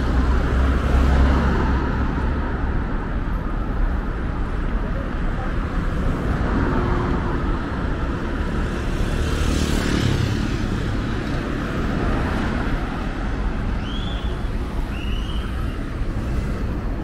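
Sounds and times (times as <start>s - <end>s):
cars driving by: 0.0s - 17.0s
low traffic rumble: 0.0s - 17.0s.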